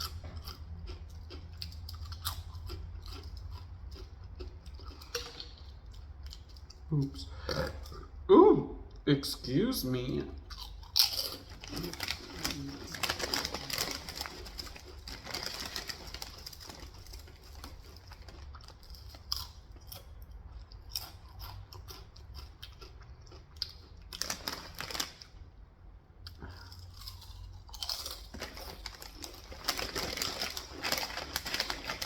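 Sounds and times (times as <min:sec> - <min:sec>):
person chewing crunchy food: 0:00.0 - 0:08.2, 0:10.4 - 0:25.4, 0:26.2 - 0:32.0.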